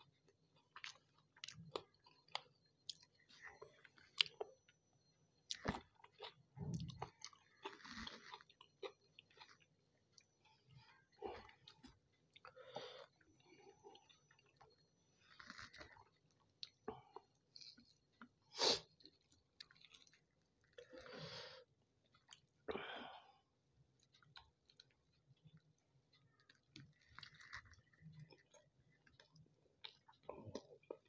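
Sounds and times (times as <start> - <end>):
person chewing: 0.1 - 4.6, 5.5 - 21.2, 22.1 - 22.6, 24.0 - 31.0.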